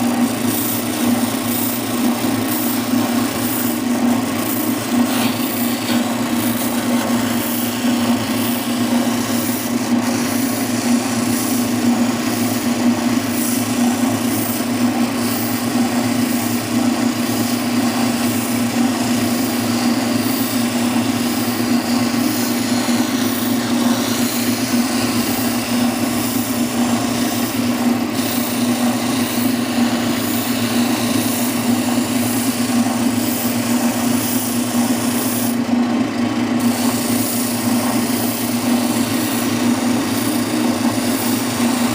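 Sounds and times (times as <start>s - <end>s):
sanding drum rubbing wood: 0.0s - 35.7s, 36.6s - 41.9s
spindle sander humming: 0.0s - 41.9s.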